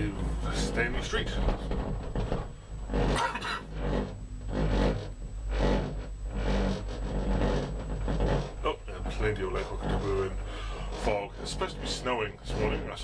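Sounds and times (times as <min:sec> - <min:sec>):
gondola cabin rumbling on cable: 0:00.0 - 0:13.0
rasping scraping at support tower: 0:00.0 - 0:13.0.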